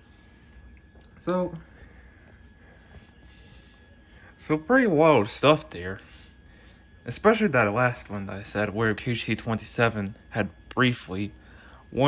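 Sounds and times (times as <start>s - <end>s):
faint high-pitched tone: 0.0s - 6.2s, 7.1s - 12.0s
low hum and hiss: 0.0s - 12.0s.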